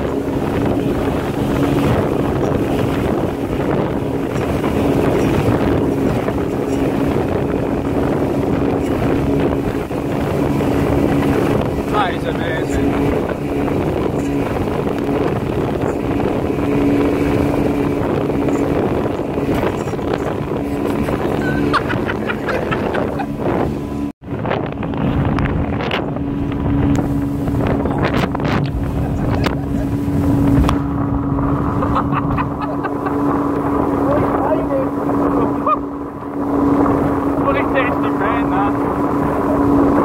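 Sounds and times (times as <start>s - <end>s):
outboard motor running: 0.0s - 40.0s
water rushing past hull: 0.0s - 40.0s
wind buffeting microphone: 0.0s - 40.0s.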